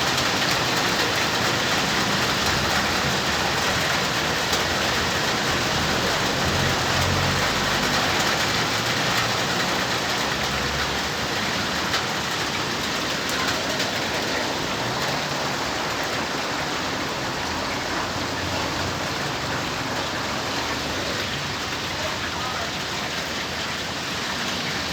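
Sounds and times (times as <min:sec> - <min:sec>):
steady rain hiss: 0:00.0 - 0:24.9.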